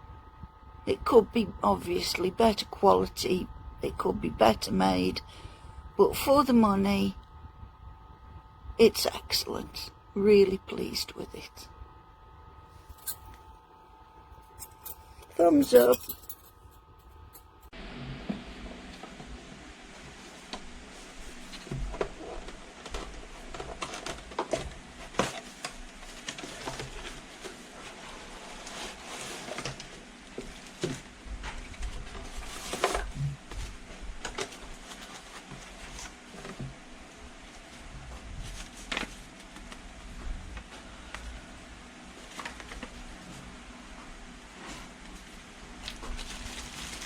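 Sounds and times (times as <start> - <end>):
faint hiss and hum: 0.0 - 47.0.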